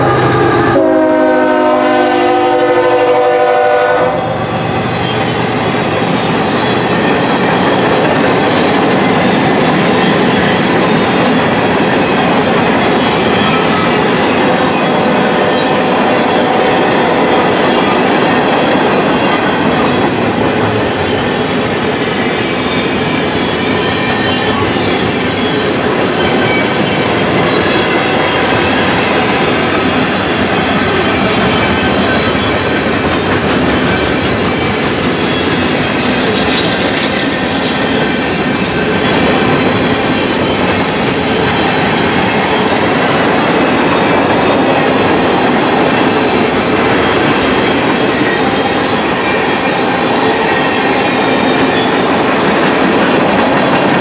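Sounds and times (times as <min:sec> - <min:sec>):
freight train wheels clattering on rails: 0:02.9 - 0:54.0.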